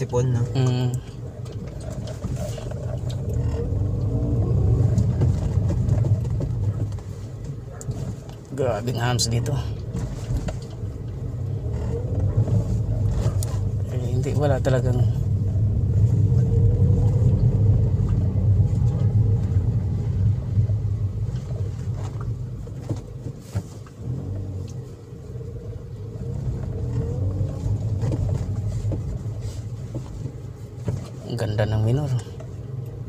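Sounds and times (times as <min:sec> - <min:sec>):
car engine and road hum: 0:00.0 - 0:33.0.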